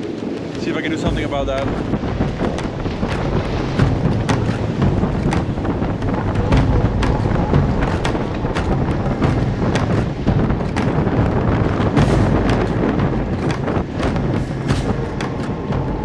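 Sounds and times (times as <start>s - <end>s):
wind buffeting microphone: 0.8s - 16.0s
water rushing past hull: 1.0s - 15.1s
sharp slaps of water: 1.1s - 15.0s.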